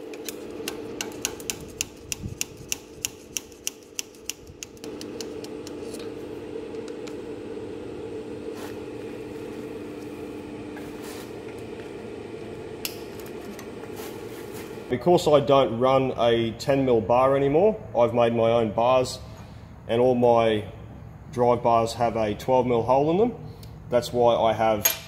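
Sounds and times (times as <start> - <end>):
fan hum: 0.0 - 25.0.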